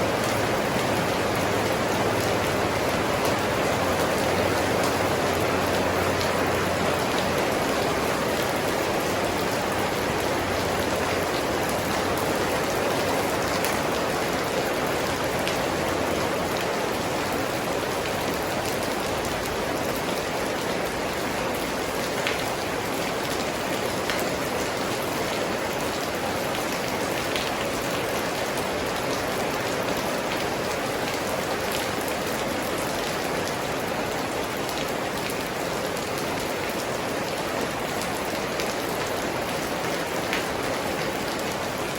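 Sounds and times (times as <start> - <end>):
raindrops ticking on surfaces: 0.0 - 41.9
steady rain hiss: 0.0 - 41.9.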